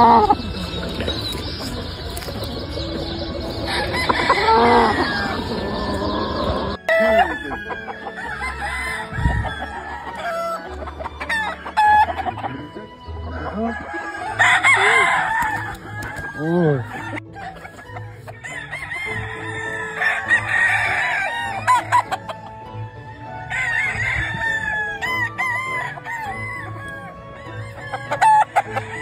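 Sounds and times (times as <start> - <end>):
chickens clucking: 0.0 - 29.0
roosters crowing: 0.0 - 29.0.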